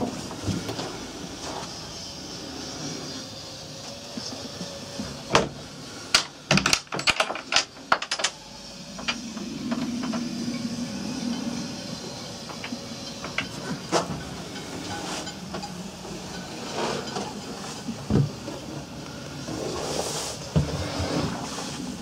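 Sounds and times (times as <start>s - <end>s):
low drone: 0.0s - 22.0s.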